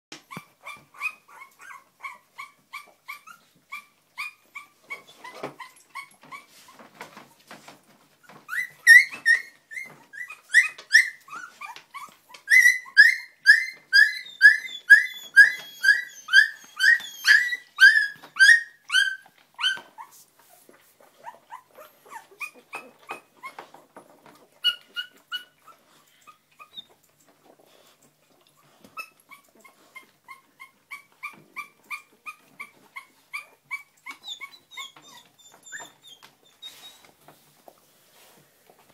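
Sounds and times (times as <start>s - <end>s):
puppies whimpering and squealing: 0.2s - 7.2s, 7.9s - 37.7s.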